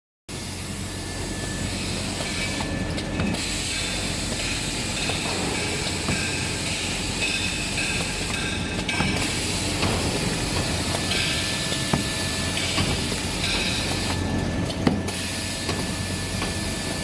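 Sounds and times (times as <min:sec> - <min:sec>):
mechanical clatter and clicks: 0:02.2 - 0:17.0.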